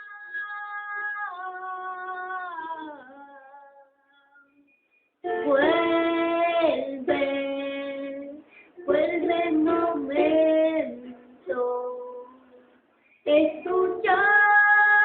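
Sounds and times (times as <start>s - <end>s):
boy singing a slow ballad: 0.0s - 4.0s, 5.2s - 12.7s, 13.3s - 15.0s.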